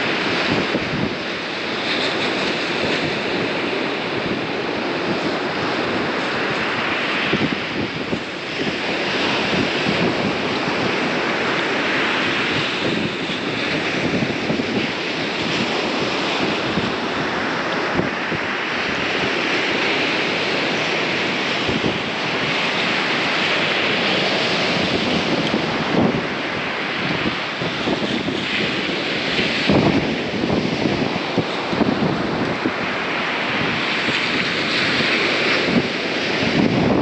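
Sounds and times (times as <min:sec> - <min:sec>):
ocean surf breaking on beach: 0:00.0 - 0:37.0
wind buffeting microphone: 0:00.0 - 0:37.0.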